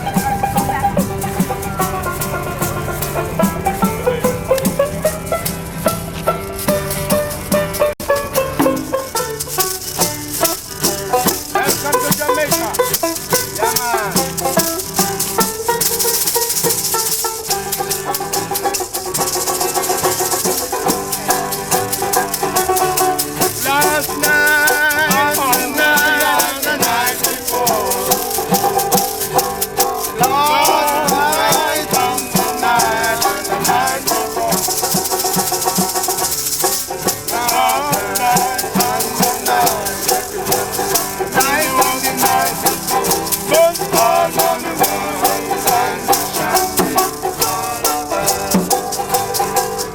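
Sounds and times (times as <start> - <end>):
maracas shaking: 0.0 - 49.9
plucked strings: 0.0 - 49.9.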